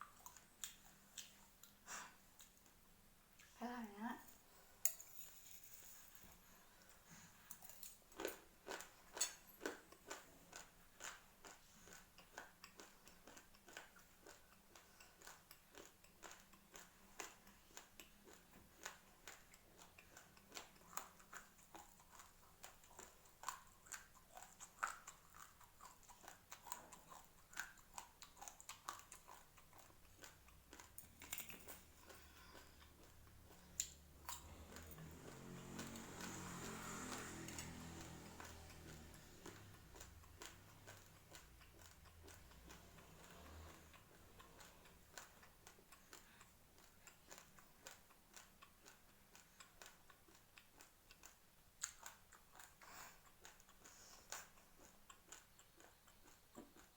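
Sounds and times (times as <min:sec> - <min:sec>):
chewing rice crunches: 0:00.0 - 0:02.8, 0:05.9 - 0:56.9.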